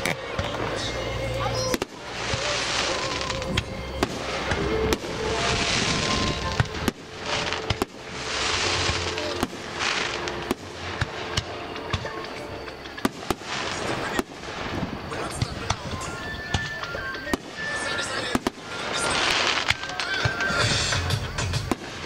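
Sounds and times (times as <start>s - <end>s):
fireworks bangs: 0.0s - 22.0s
fireworks crackle and hiss: 0.0s - 22.0s.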